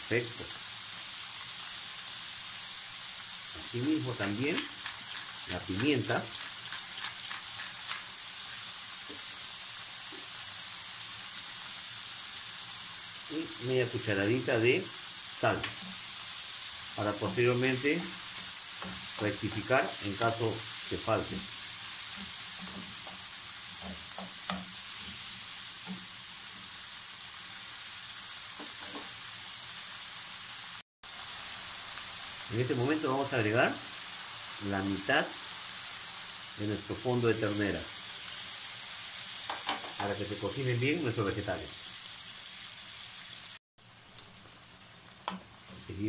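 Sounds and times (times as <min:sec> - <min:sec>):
vegetables sizzling in frying pan: 0:00.0 - 0:46.0.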